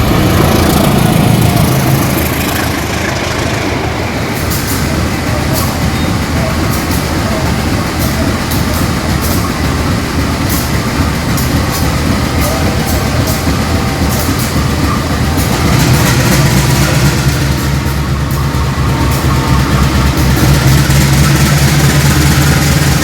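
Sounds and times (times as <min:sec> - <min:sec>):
locomotive engine rumble: 0:00.0 - 0:23.0.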